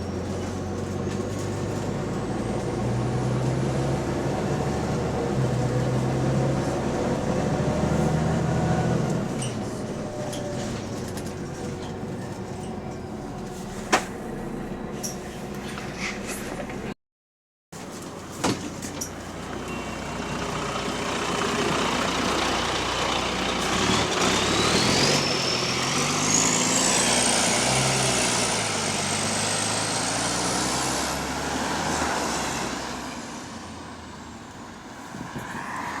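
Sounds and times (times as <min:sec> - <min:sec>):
bus diesel engine accelerating: 0:00.0 - 0:17.0, 0:17.8 - 0:36.0.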